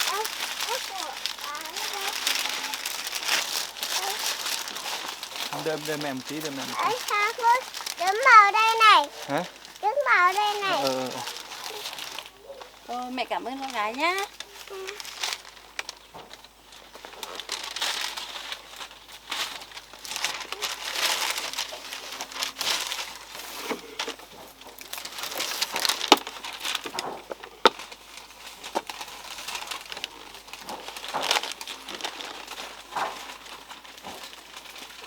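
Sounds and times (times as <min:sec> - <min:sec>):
bag crinkling and rustling: 0:00.0 - 0:35.0.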